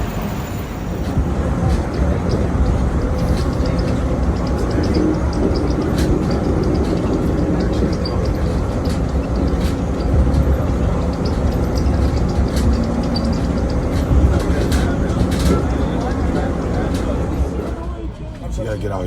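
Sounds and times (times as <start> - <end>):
road and wind noise: 0.0 - 19.0
vehicle rumble: 0.0 - 19.0.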